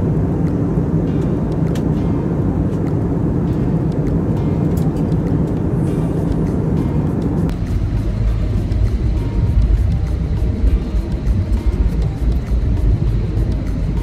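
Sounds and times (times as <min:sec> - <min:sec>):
jet cabin engine rumble: 0:00.0 - 0:14.0
low hum: 0:00.0 - 0:14.0.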